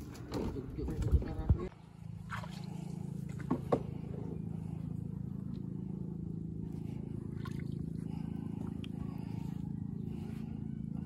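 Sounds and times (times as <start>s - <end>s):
small boat engine humming: 1.4s - 11.0s.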